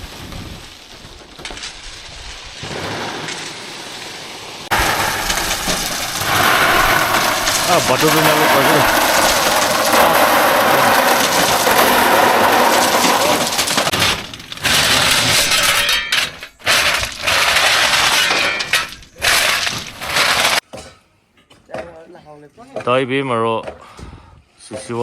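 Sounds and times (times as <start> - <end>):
stones clattering as they pour: 0.0 - 20.6.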